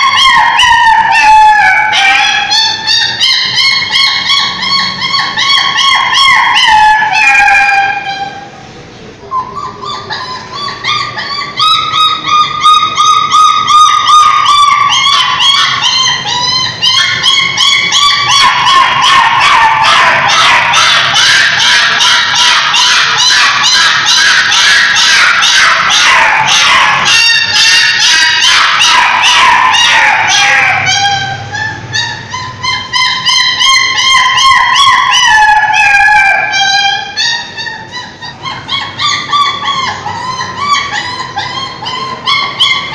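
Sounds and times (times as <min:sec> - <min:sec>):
dog whining and wailing: 0:00.0 - 0:08.6, 0:09.3 - 0:42.9
dog yipping: 0:00.0 - 0:08.6, 0:09.3 - 0:42.9.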